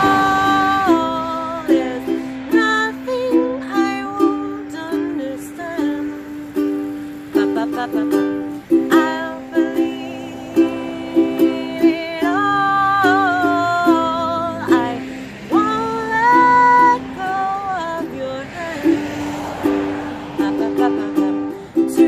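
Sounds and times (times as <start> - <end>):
ukulele plucked chords: 0.0 - 22.0
woman singing: 0.0 - 22.0.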